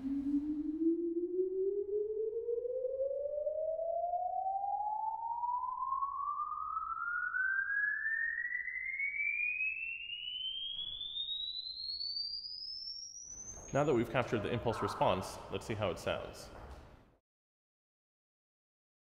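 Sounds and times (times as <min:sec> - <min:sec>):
rising sine sweep tone: 0:00.0 - 0:15.5.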